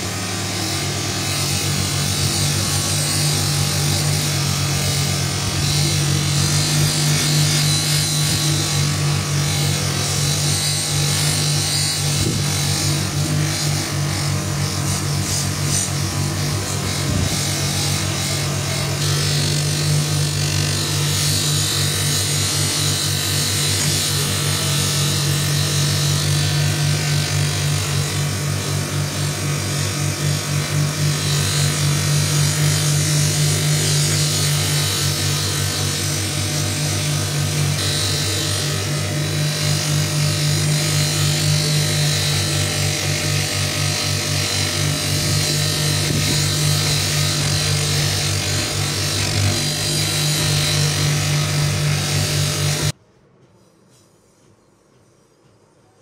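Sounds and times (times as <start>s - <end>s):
power tool polishing steel blade: 0.0s - 53.0s.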